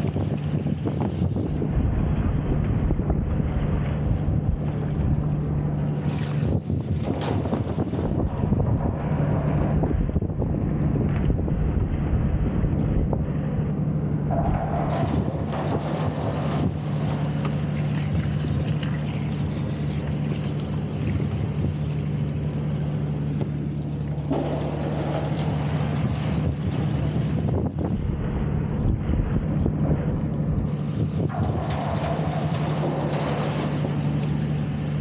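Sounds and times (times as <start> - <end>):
engine humming: 0.0 - 35.0.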